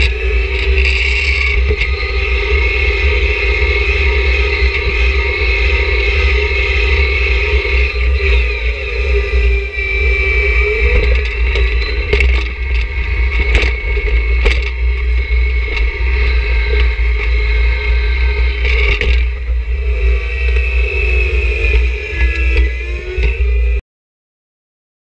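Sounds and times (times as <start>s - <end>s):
tractor diesel engine running: 0.0s - 23.8s.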